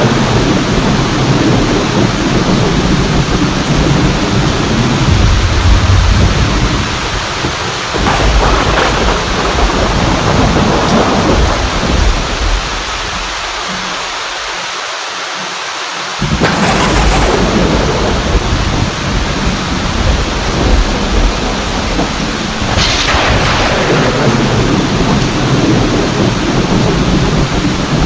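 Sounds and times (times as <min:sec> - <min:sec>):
loud thunderclap: 0:00.0 - 0:13.3, 0:16.2 - 0:28.0
rolling thunder: 0:00.0 - 0:13.6, 0:16.2 - 0:28.0
heavy rain: 0:00.0 - 0:28.0.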